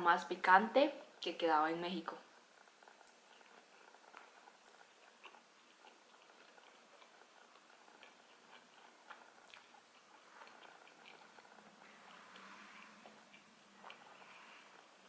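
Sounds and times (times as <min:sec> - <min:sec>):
faint chewing with wet mouth clicks: 0:02.4 - 0:15.0.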